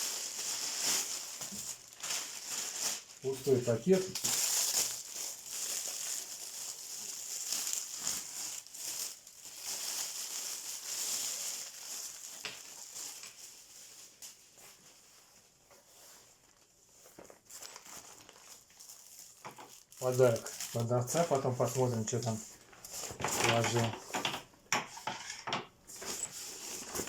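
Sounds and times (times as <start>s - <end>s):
plastic packaging crinkling: 0.0s - 15.3s, 16.0s - 25.1s, 25.9s - 27.0s.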